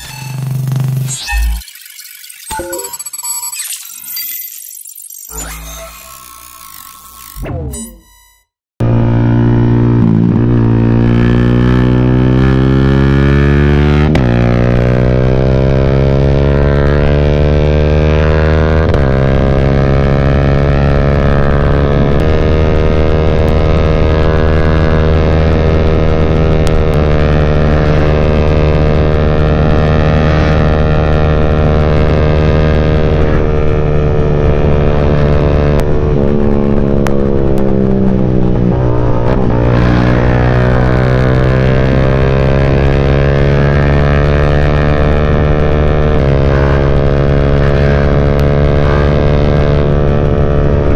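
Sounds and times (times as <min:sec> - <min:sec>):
motorcycle engine cruising: 0:08.8 - 0:50.9.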